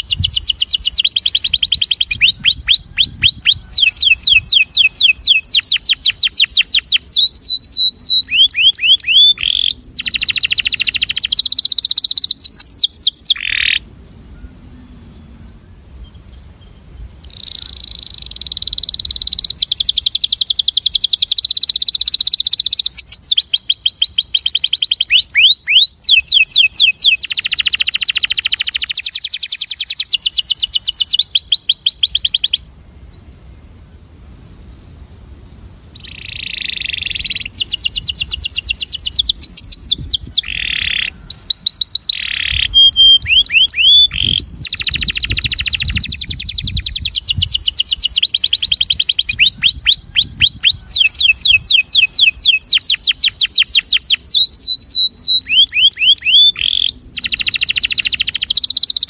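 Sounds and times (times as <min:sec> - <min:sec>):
canary singing: 0:00.0 - 0:13.8, 0:17.2 - 0:32.6, 0:36.0 - 0:59.0.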